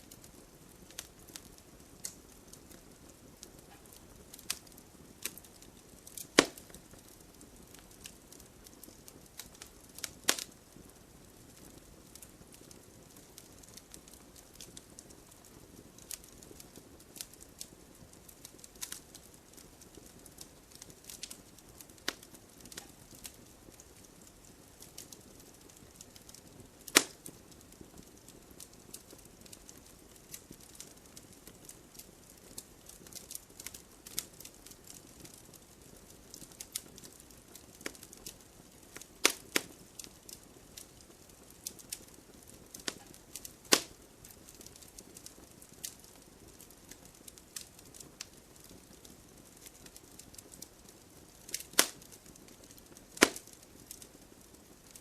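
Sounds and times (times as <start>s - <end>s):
firewood crackling and popping: 0.0s - 55.0s
soft low hiss: 0.0s - 55.0s.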